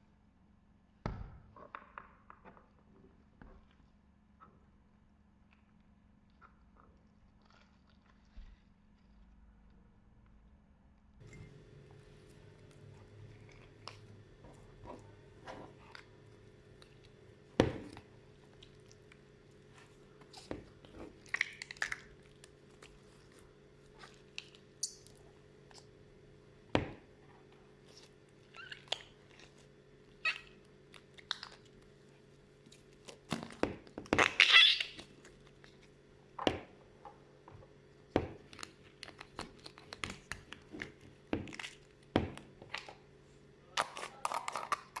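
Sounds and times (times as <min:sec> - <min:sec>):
slime squelch: 0:05.6 - 0:10.3, 0:11.2 - 0:45.0.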